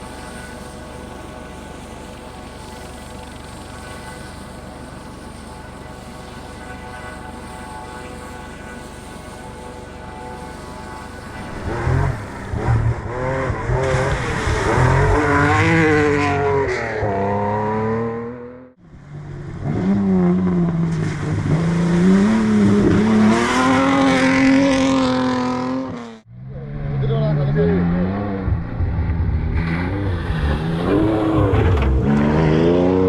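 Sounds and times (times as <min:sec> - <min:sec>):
rally car engines revving: 0:00.0 - 0:33.0.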